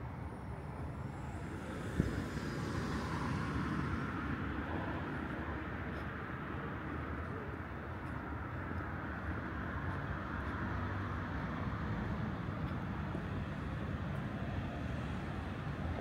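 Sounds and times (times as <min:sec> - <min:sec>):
distant traffic hum: 0:00.0 - 0:16.0.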